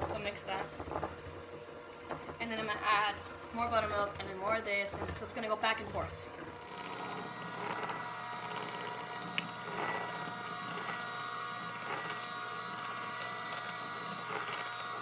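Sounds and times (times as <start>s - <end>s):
electric mixer beating batter: 0.0s - 15.0s.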